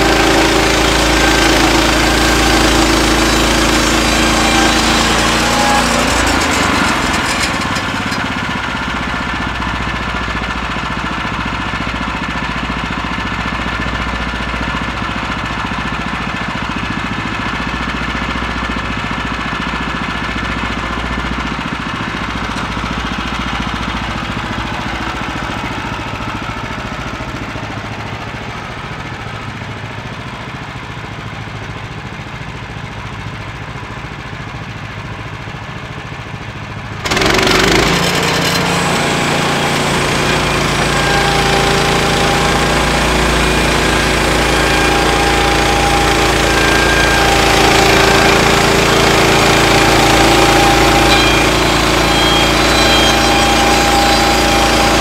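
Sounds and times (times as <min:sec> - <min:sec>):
sawmill gasoline engine running: 0:00.0 - 0:55.0.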